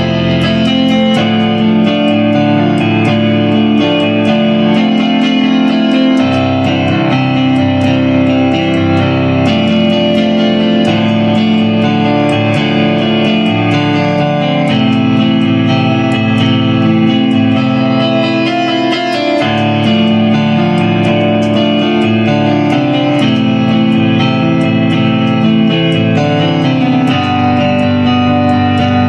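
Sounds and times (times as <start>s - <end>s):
solo instrumental chords: 0.0s - 29.0s.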